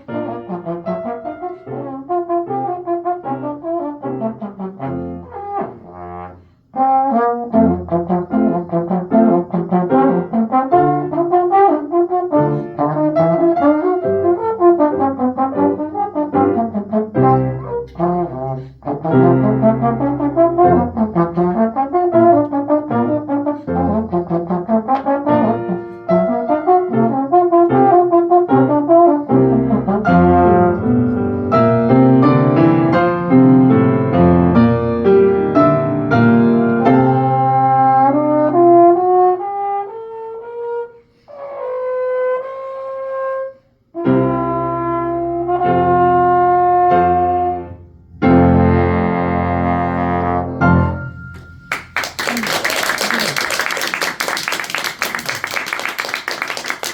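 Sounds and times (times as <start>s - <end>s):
brass ensemble music: 0.0s - 51.0s.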